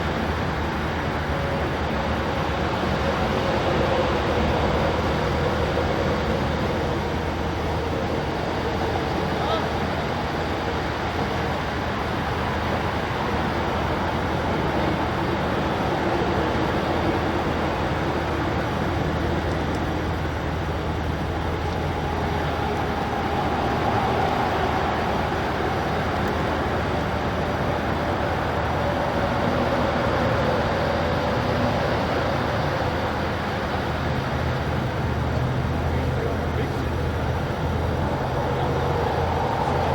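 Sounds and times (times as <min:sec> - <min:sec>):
low engine hum: 0:00.0 - 0:39.9
road traffic rushing: 0:00.0 - 0:39.9.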